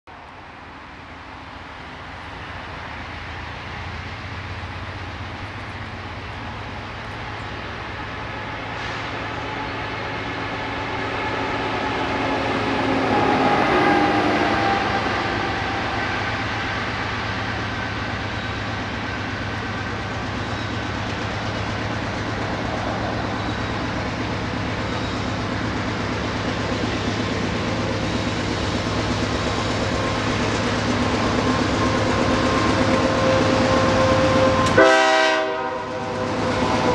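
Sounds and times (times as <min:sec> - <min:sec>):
diesel locomotive engines: 0:00.1 - 0:36.9.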